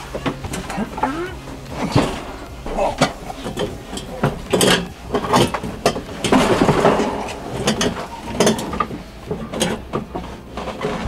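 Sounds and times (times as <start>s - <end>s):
metal casing knocking and scraping: 0.0s - 11.0s.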